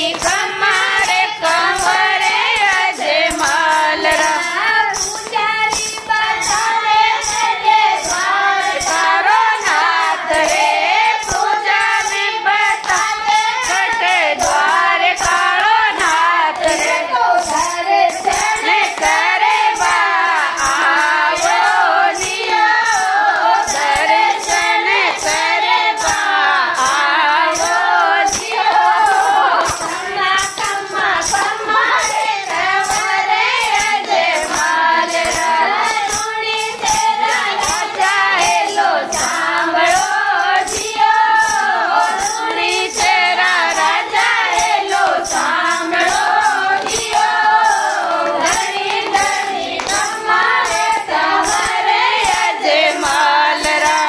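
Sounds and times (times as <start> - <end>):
group of women singing: 0.0 - 54.0
rhythmic hand-clapping: 0.0 - 54.0.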